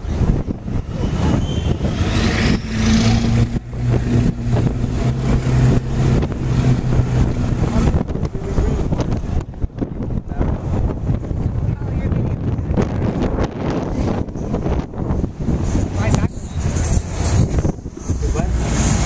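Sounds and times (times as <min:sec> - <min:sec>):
vehicle engine droning: 0:00.0 - 0:19.0
wind and road rush: 0:00.0 - 0:19.0.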